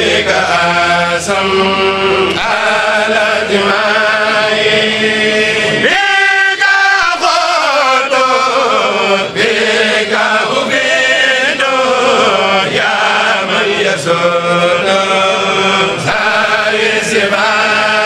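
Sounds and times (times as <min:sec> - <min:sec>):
group chanting together: 0:00.0 - 0:18.0.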